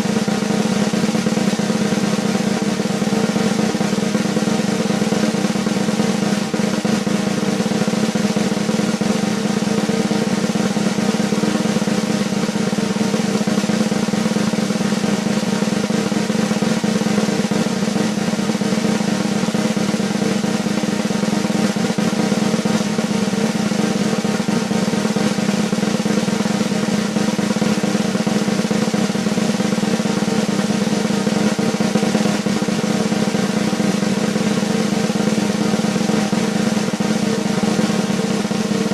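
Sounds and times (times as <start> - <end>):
snare drum roll: 0.0 - 38.9.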